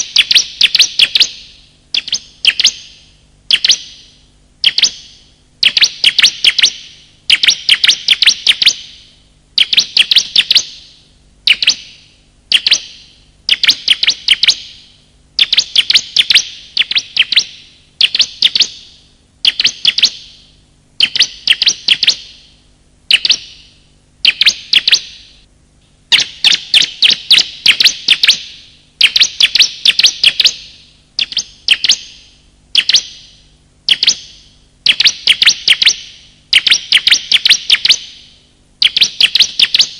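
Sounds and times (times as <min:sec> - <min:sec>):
bird calling with sharp chirps: 0:00.0 - 0:25.4, 0:26.1 - 0:39.9.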